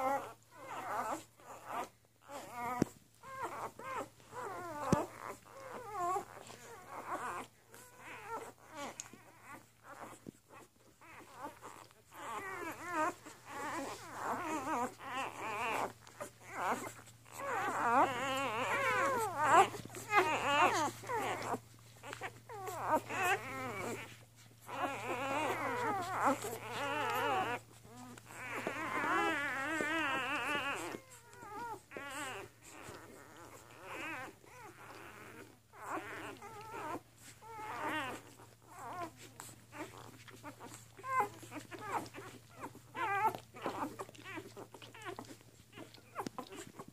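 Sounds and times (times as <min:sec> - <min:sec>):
puppies squeaking and whining: 0:00.0 - 0:46.9.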